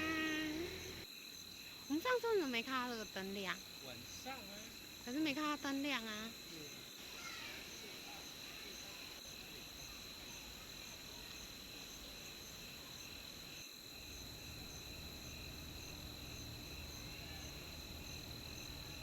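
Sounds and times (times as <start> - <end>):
insects trilling: 0.0 - 19.0
soft insect chirp: 0.0 - 19.0.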